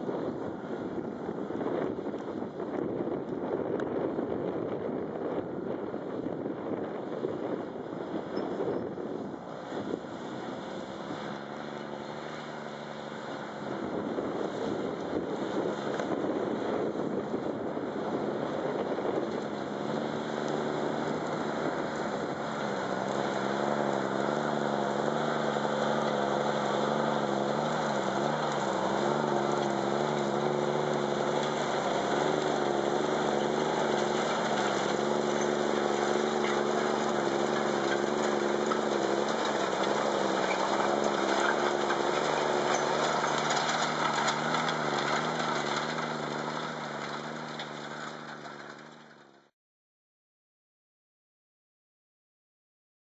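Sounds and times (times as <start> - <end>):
tractor engine under load: 0.0 - 49.5.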